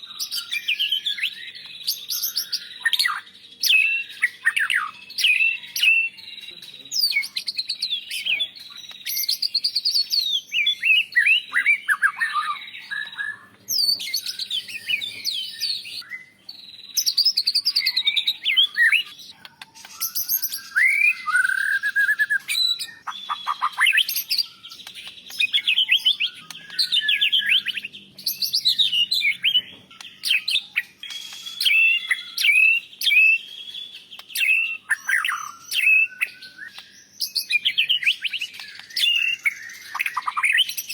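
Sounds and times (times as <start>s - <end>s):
bird singing whistled phrases: 0.0s - 40.9s.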